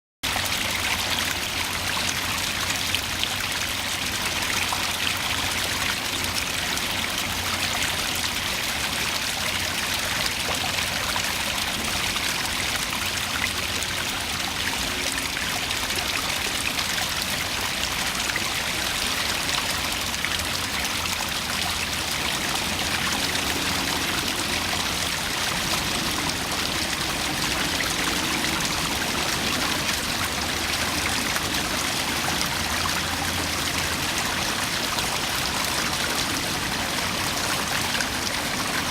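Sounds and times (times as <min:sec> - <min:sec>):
water splashing over rocks: 0:00.2 - 0:38.9.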